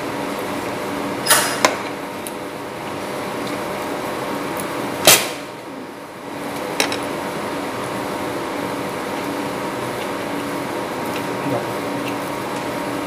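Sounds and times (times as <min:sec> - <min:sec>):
restaurant room hum: 0:00.0 - 0:13.0.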